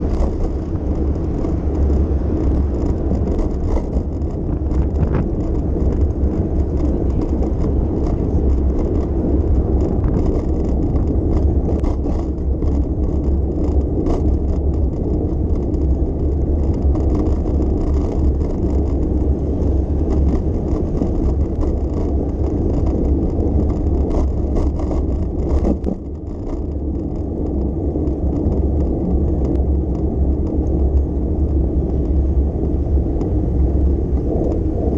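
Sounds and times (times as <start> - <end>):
bicycle tyre and road noise: 0.0 - 34.9
small clicks and rattles: 0.0 - 34.9
wind on microphone: 0.0 - 34.9.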